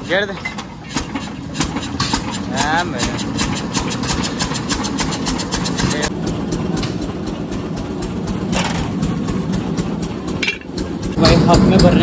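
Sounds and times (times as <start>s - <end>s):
engine knocking: 0.0s - 12.0s.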